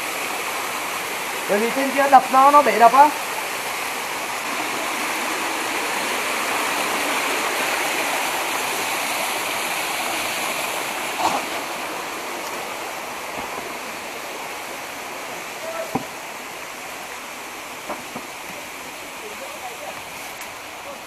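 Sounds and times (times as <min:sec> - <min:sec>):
water flowing through a creek: 0:00.0 - 0:21.0.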